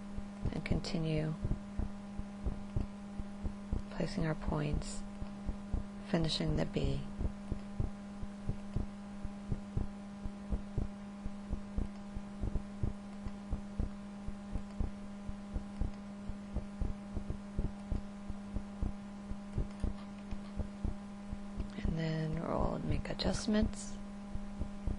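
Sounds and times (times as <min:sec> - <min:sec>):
steady electrical hum: 0:00.0 - 0:24.9.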